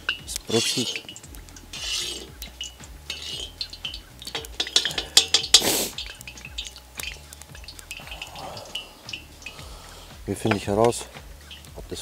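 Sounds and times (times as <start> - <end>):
metal skimmer clinking on a pot: 0.0 - 9.7, 10.3 - 12.0.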